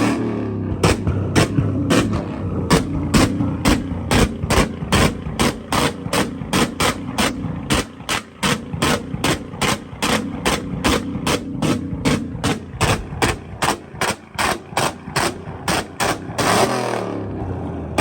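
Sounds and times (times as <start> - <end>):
car engine on rev limiter: 0.0 - 18.0
exhaust pops and bangs: 0.0 - 18.0.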